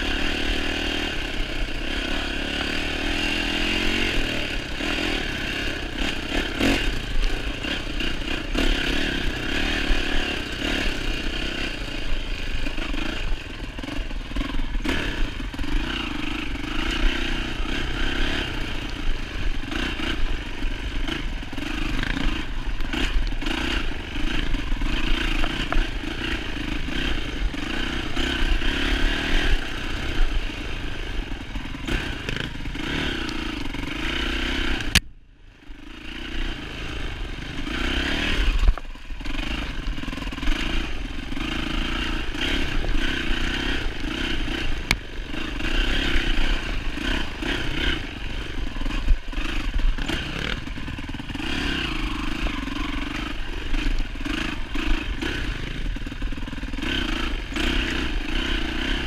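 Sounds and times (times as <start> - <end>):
dirt bike engine revving: 0.0 - 35.0, 35.6 - 59.0.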